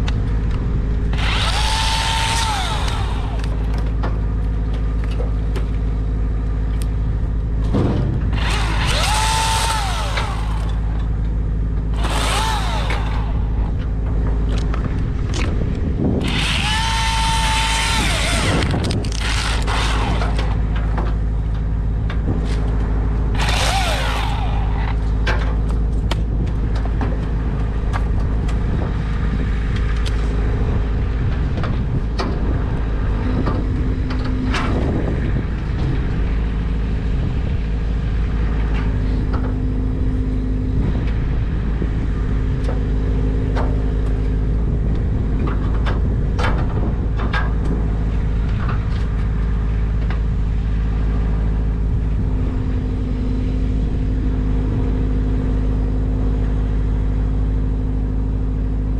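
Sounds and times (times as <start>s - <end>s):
engine rumbling: 0.0s - 58.9s.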